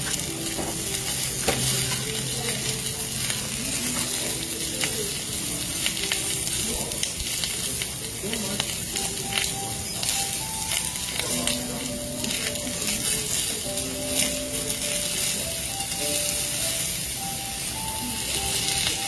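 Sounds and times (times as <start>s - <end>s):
meat and vegetables sizzling in pan: 0.0s - 19.0s
soft background music: 0.0s - 19.0s.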